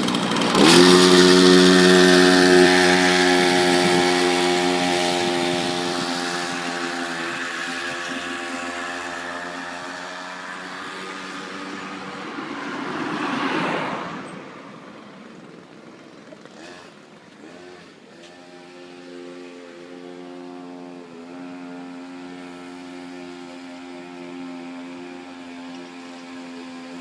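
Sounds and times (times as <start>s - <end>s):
two-stroke engine droning: 0.0s - 27.0s.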